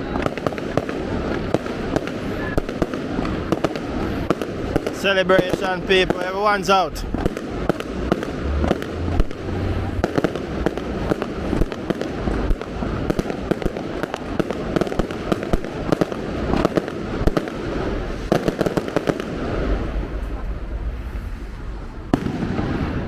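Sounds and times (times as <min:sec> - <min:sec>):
constant rumble: 0:00.0 - 0:23.0
fireworks cracking and banging: 0:00.0 - 0:23.0.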